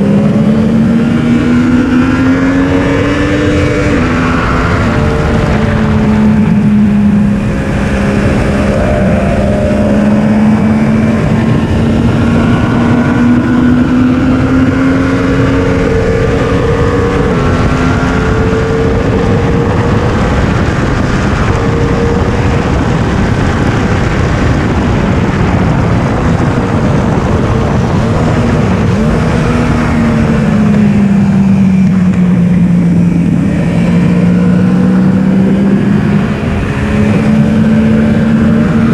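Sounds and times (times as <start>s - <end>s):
motorcycle engine revving hard: 0.0s - 38.9s
wind noise: 0.0s - 38.9s.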